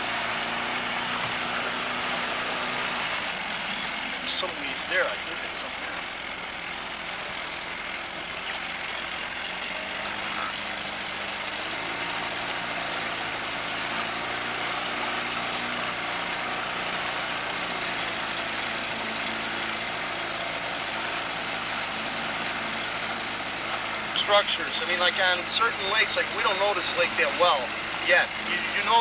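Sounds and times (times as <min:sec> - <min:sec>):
outboard motor running: 0:00.0 - 0:29.0
water noise: 0:00.0 - 0:29.0.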